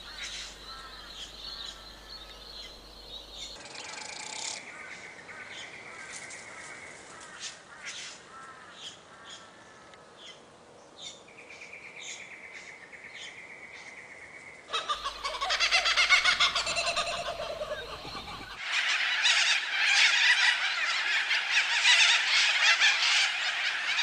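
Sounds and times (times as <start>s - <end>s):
birds chirping and calling: 0.0s - 10.4s, 14.7s - 24.0s.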